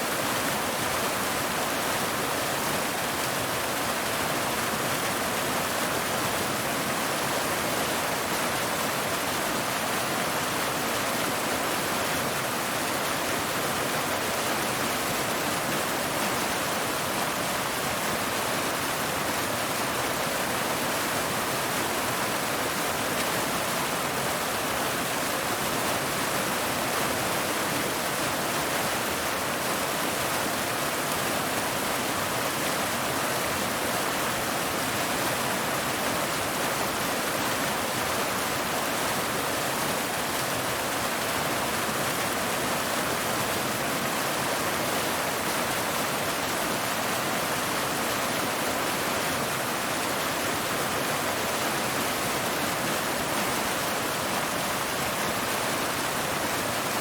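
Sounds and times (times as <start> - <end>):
waterfall cascading over rocks: 0.0 - 57.0.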